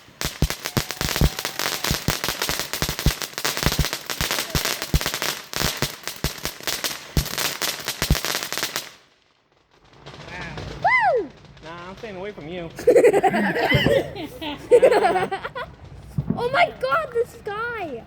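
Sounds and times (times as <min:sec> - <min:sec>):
firework bangs: 0:00.0 - 0:18.0
firework crackling: 0:00.0 - 0:18.0.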